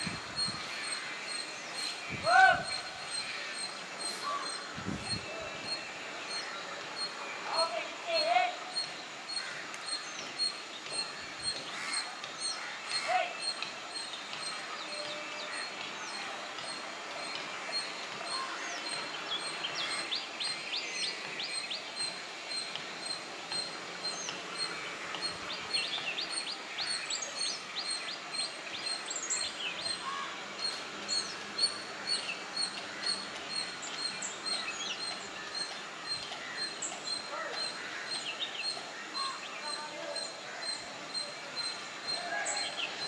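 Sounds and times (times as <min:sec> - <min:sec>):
background hiss: 0:00.0 - 0:43.0
birds chirping and calling: 0:00.0 - 0:43.0.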